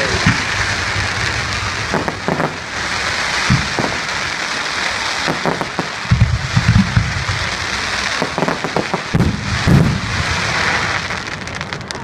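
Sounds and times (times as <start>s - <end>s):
firework booms: 0.0s - 12.0s
fireworks crackling: 0.0s - 12.0s.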